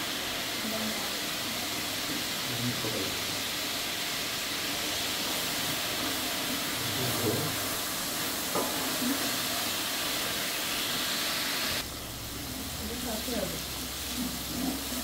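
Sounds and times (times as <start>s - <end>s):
rice hissing in a pot: 0.0s - 15.0s.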